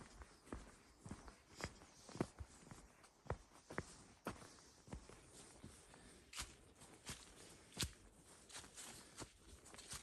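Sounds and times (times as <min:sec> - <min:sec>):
quiet footsteps: 0:00.0 - 0:10.0.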